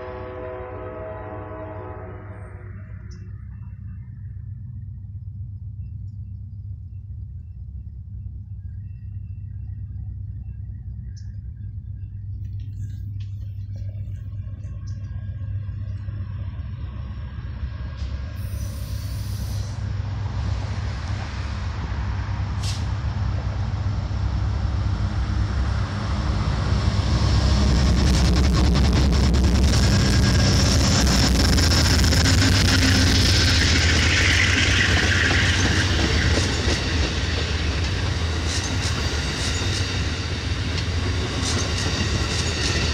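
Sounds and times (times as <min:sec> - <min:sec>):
diesel locomotive rumble: 0:00.0 - 0:42.9
train wheels on rails: 0:02.4 - 0:42.9.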